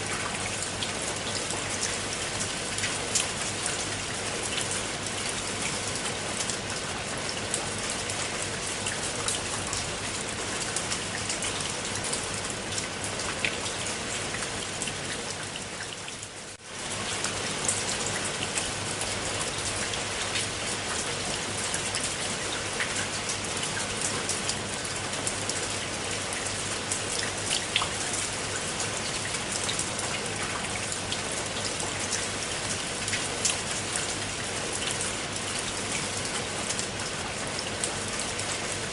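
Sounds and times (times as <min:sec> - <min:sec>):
rain falling on water: 0:00.0 - 0:38.9.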